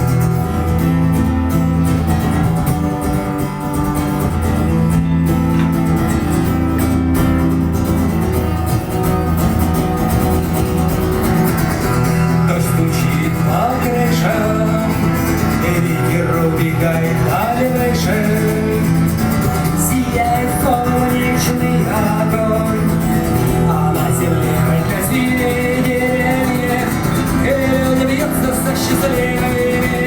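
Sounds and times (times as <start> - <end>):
steady bass line: 0.0 - 30.0
strummed guitar chords: 0.0 - 30.0.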